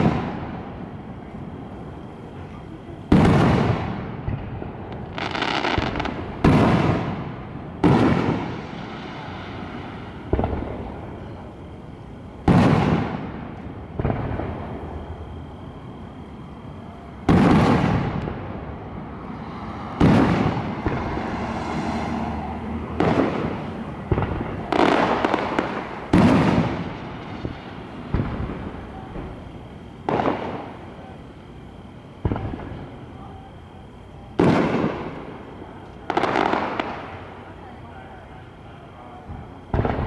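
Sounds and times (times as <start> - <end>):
fireworks bursting with echo: 0.0 - 40.0.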